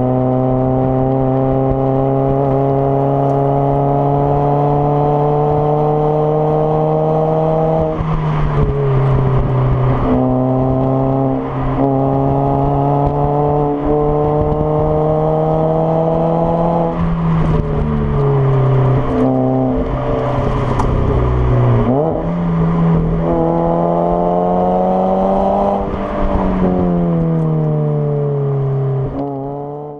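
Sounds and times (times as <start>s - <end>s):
car engine at high revs: 0.0s - 29.9s.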